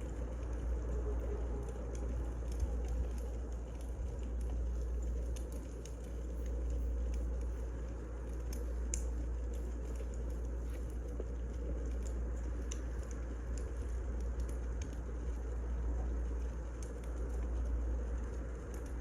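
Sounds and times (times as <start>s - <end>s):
fire low rumble: 0.0s - 19.0s
wood fire crackling: 0.0s - 19.0s.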